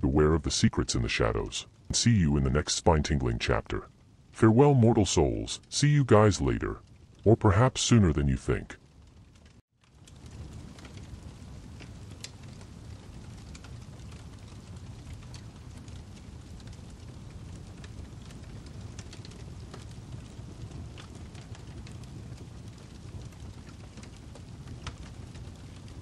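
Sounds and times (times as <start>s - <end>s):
fire crackling: 0.0s - 26.0s.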